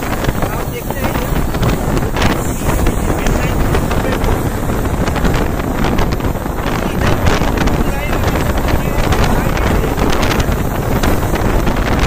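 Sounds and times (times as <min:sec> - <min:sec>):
train running noise on board: 0:00.0 - 0:12.0
wind buffeting microphone: 0:00.0 - 0:12.0.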